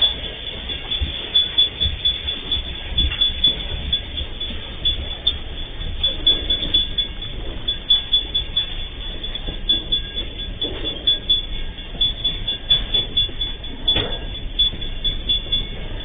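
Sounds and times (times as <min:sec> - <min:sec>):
train wheels knocking: 0:00.0 - 0:16.0.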